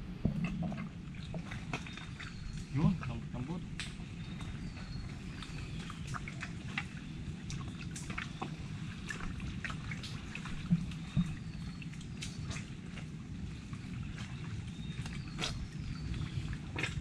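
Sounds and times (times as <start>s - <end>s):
mud squelching and dripping: 0.0s - 17.0s.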